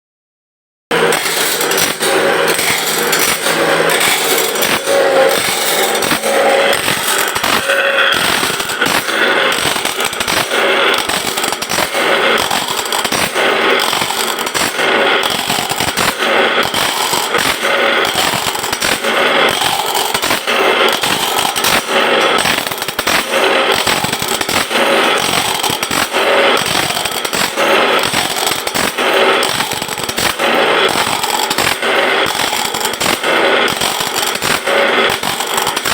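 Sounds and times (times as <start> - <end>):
grinding wheel rasping on blade: 0.9 - 35.9.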